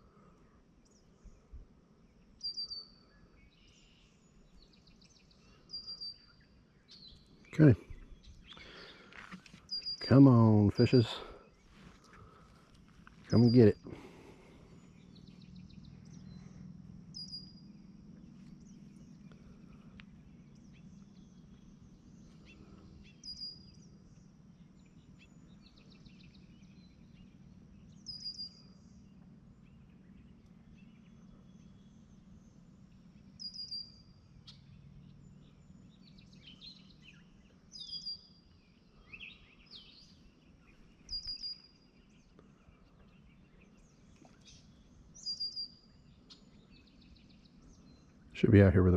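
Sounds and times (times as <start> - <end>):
faint low hum: 0.0 - 48.9
bird chirps: 2.3 - 48.9.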